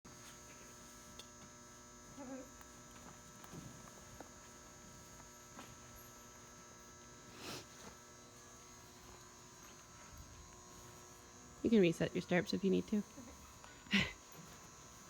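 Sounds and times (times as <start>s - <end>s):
faint electrical hum: 0.1s - 15.0s.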